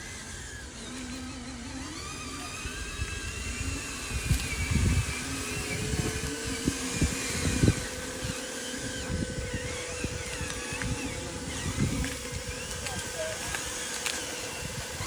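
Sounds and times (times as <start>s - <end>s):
low rumbling: 0.0s - 15.0s
small electric motor whining: 0.0s - 15.0s.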